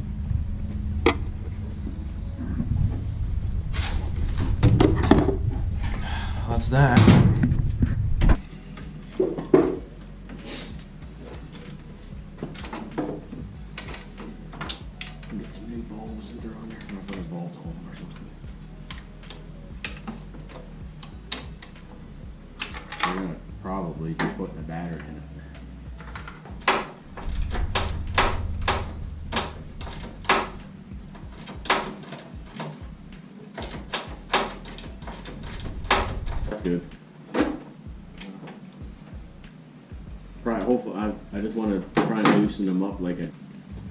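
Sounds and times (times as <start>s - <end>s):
low rumble: 0.0s - 33.2s, 33.8s - 37.0s, 37.9s - 38.2s, 42.9s - 43.9s.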